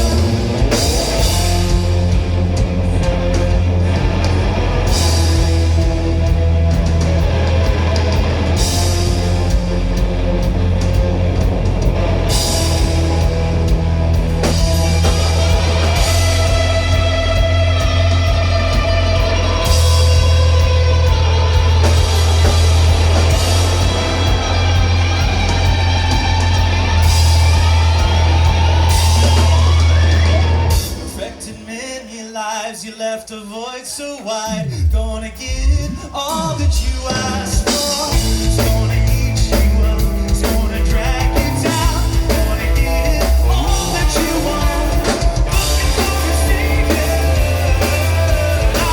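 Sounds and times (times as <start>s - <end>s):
rock band playing live: 0.0s - 32.2s, 34.2s - 48.9s.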